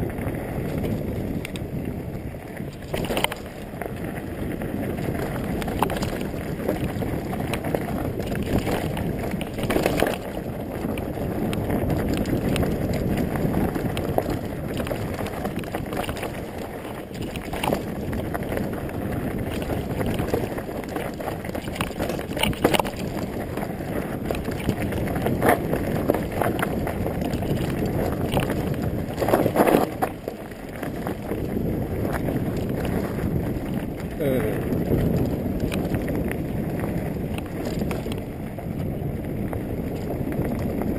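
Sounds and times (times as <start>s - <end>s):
bike rattling: 0.0s - 40.9s
tyre rumble over dirt: 0.0s - 40.9s
wind rushing on microphone: 0.0s - 40.9s.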